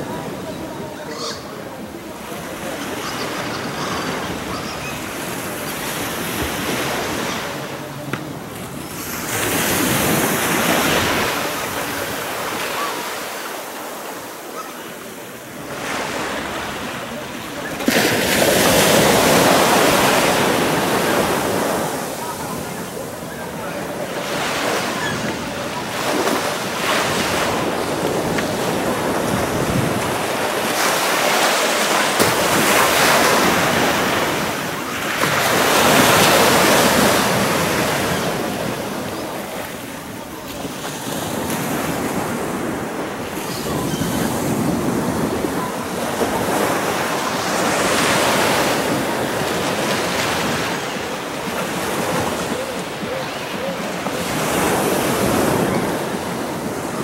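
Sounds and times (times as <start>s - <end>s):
small waves breaking on a beach: 0.0s - 57.0s.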